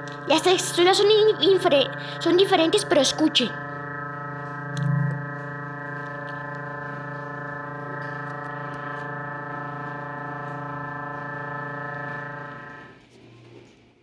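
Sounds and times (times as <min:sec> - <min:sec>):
electronic drone: 0:00.0 - 0:13.0.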